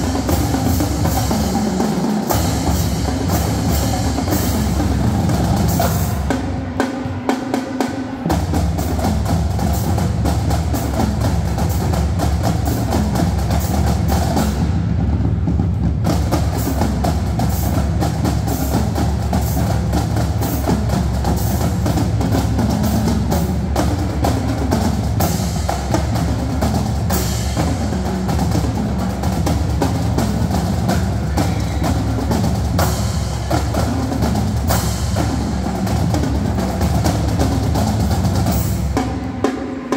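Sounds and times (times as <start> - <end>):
bass drums: 0.0 - 6.6, 8.2 - 39.5
snare drums: 0.0 - 39.9
tenor drums: 0.0 - 39.9.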